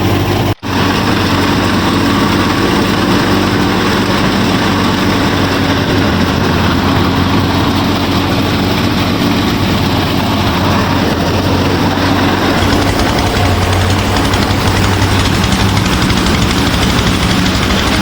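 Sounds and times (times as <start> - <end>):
small machine engine drone: 0.0 - 18.0.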